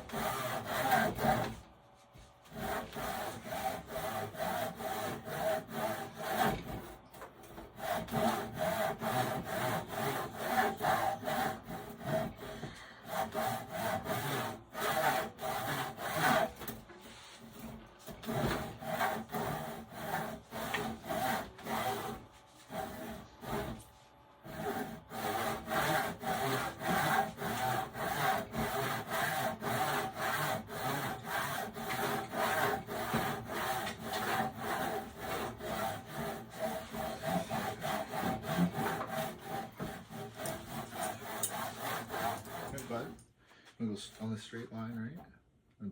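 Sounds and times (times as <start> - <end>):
handsaw cutting wood: 0.0 - 43.2.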